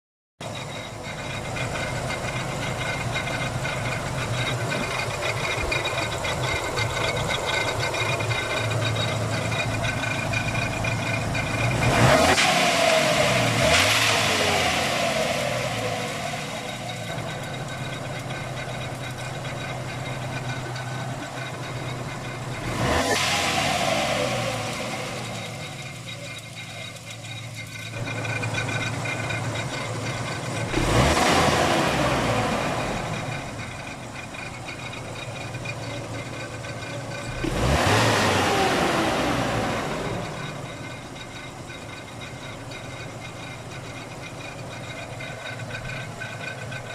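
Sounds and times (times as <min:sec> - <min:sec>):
car engine idling and revving: 0:00.4 - 0:46.9
engine grinding noise: 0:00.4 - 0:46.9.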